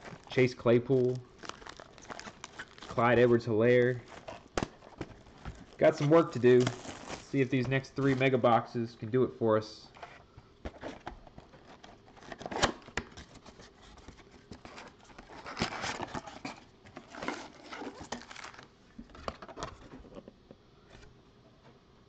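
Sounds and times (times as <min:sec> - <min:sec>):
cardboard rustling and scraping: 0:00.0 - 0:08.4, 0:09.9 - 0:20.3.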